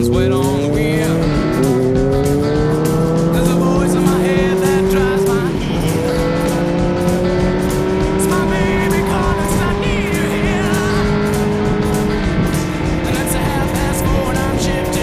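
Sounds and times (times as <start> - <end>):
background music: 0.0 - 15.0
motorcycle engine accelerating: 0.0 - 15.0.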